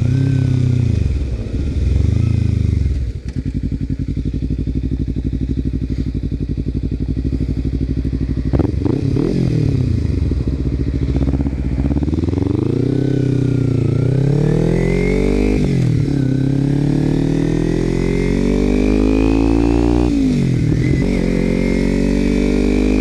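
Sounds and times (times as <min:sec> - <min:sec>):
motorcycle engine revving and idling: 0:00.0 - 0:23.0.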